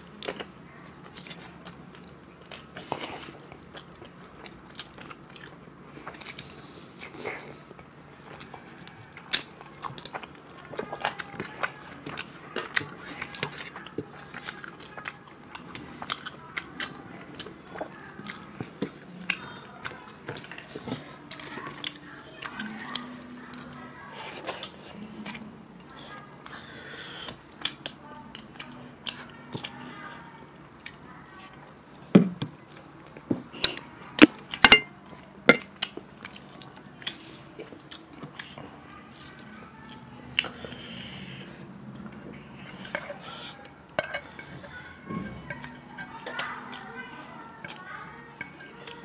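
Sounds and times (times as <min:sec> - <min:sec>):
people chewing and lip-smacking: 0:00.0 - 0:49.0.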